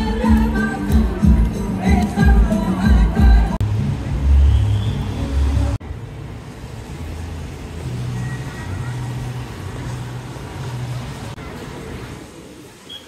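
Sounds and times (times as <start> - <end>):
traffic on wet street: 0.0 - 13.0.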